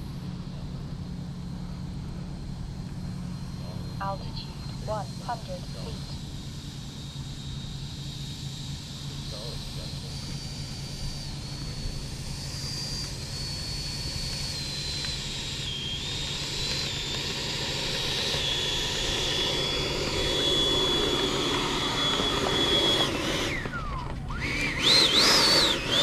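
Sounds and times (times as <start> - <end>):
electric ducted fans whining: 0.0 - 26.0.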